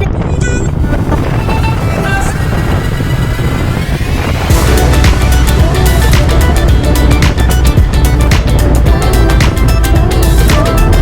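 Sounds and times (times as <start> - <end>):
wind rumble on microphone: 0.0 - 11.0
background music with held notes: 0.6 - 11.0.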